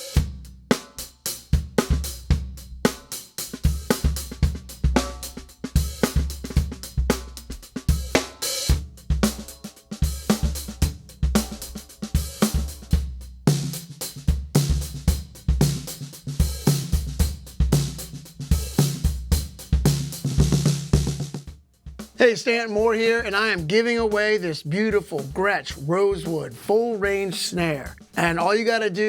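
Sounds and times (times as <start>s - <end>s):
hi-hat and cymbals: 0.0s - 29.0s.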